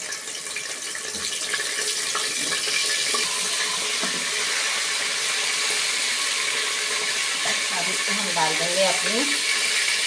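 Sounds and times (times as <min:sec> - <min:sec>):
paste frying in hot oil: 0:00.0 - 0:10.0.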